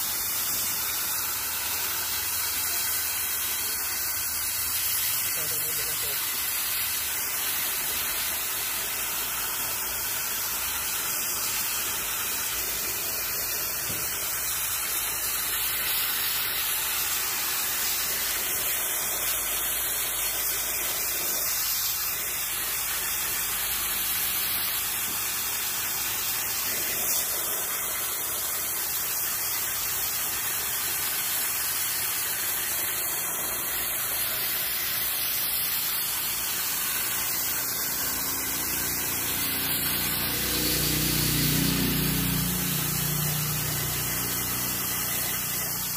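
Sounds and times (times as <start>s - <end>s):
high-pressure water jet hissing: 0.0s - 45.9s.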